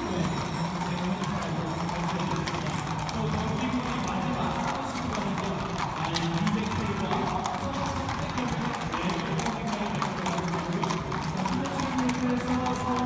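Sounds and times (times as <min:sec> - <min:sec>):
horse hooves clip-clopping on pavement: 0:00.0 - 0:13.0
voices: 0:00.0 - 0:13.0.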